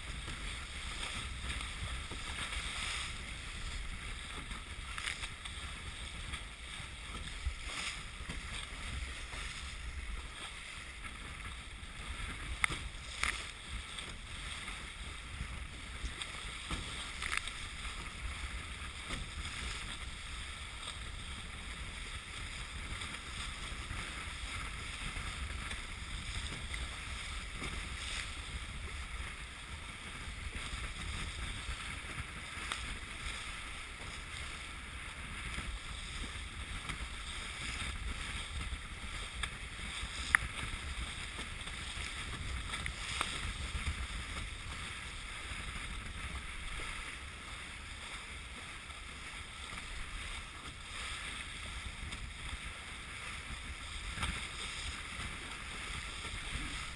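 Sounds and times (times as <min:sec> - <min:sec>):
water hissing along hull: 0:00.0 - 0:56.9
wind rumbling on microphone: 0:00.0 - 0:56.9.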